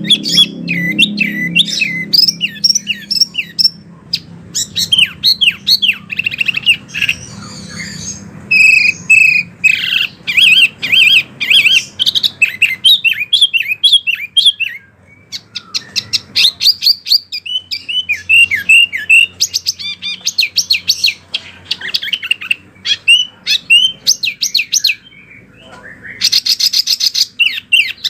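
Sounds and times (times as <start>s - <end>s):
songbird chirping: 0.0s - 28.0s
wavering whistled bird phrases: 0.0s - 28.0s.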